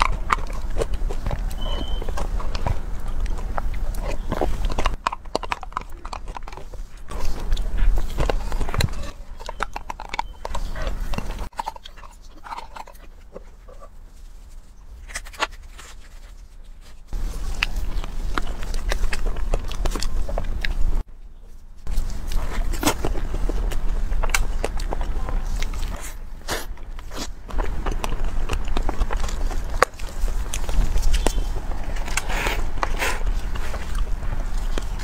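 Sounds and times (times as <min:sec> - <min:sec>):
lip smacks and chewing: 0:00.0 - 0:21.1, 0:21.8 - 0:35.0.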